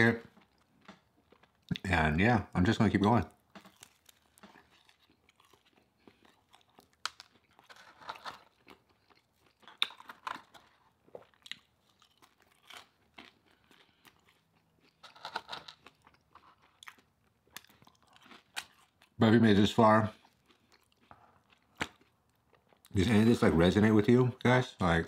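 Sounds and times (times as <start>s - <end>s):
man chewing food: 0.1s - 1.9s, 3.3s - 19.2s, 20.1s - 23.2s.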